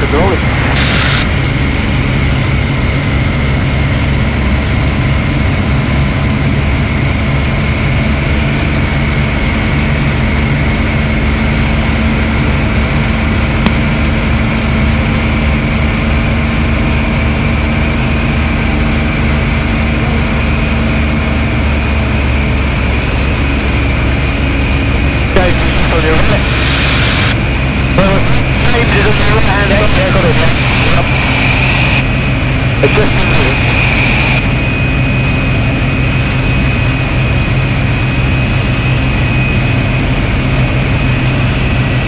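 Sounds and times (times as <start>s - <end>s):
aircraft engine at full power: 0.0s - 42.0s
steady high whine: 0.0s - 42.0s.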